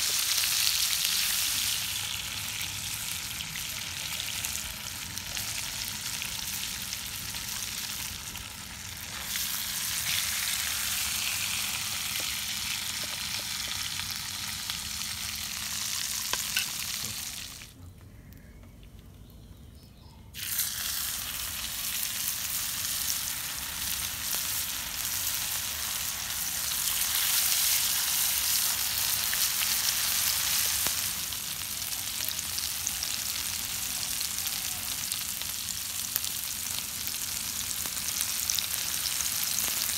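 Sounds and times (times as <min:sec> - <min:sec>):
fish frying in hot oil: 0:00.0 - 0:17.7, 0:20.4 - 0:39.9.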